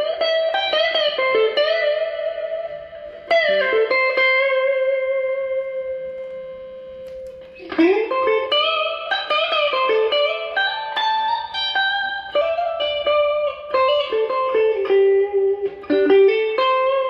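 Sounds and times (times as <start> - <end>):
electric guitar lead melody: 0.0 - 17.0.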